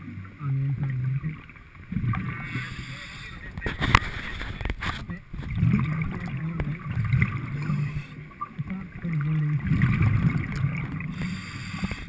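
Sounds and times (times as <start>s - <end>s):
underwater breathing and bubbles: 0.0s - 12.0s.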